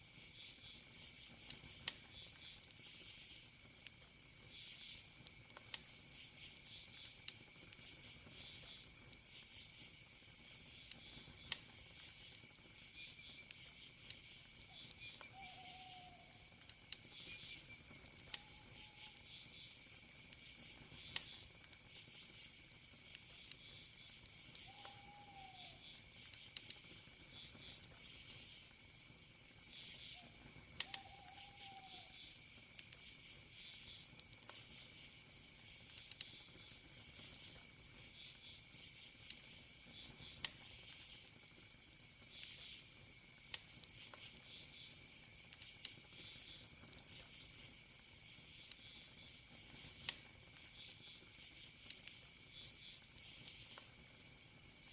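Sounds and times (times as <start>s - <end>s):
campfire crackling and popping: 0.0s - 54.9s
crickets and insects trilling: 0.0s - 54.9s.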